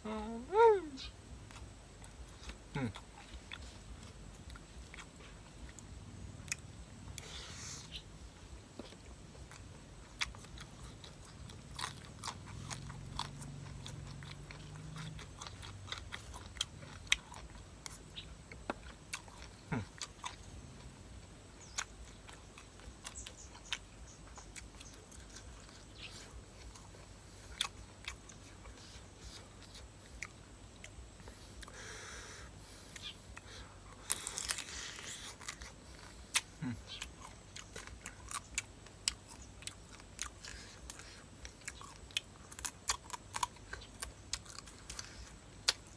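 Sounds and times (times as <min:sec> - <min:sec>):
person chewing food: 0:01.4 - 0:45.9.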